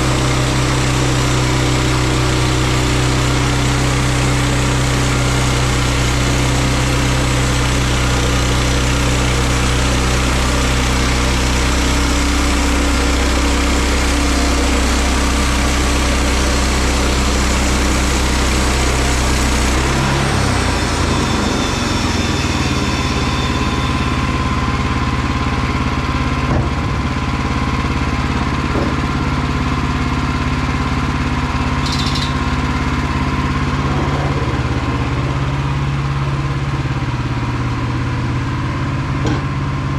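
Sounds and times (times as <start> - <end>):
gas engine running: 0.0 - 39.9.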